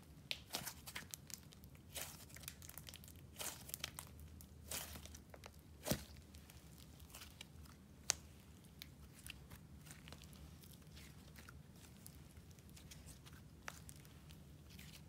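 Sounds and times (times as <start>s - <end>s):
slime crackling and popping: 0.2s - 15.0s.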